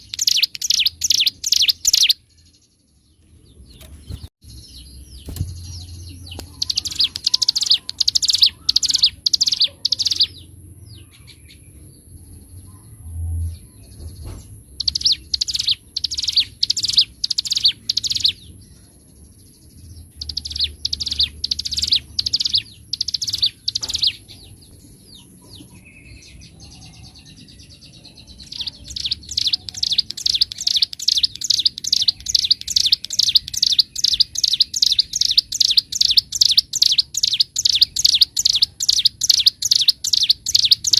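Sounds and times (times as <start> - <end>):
bird singing fast trills: 0.0 - 12.4, 14.7 - 40.9.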